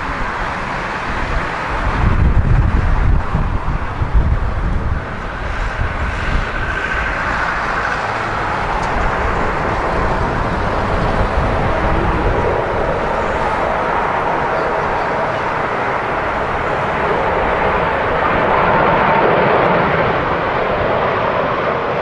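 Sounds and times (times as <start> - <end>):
jet engines rushing and whining: 0.0 - 22.0
wind buffeting microphone: 0.0 - 22.0.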